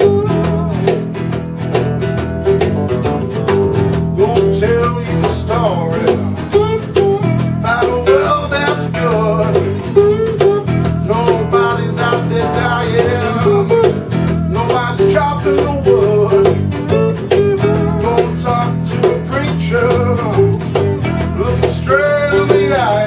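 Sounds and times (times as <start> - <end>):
acoustic blues on guitars: 0.0 - 23.0.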